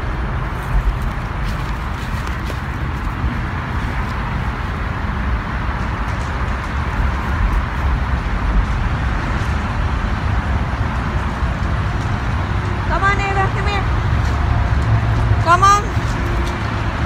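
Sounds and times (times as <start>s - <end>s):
highway traffic noise: 0.0s - 17.0s.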